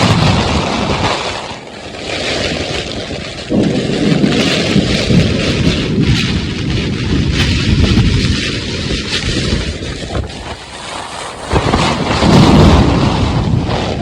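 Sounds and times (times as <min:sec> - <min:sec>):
heavy rain: 0:00.0 - 0:14.0
strong wind: 0:00.0 - 0:14.0
thunder rumble: 0:00.0 - 0:14.0.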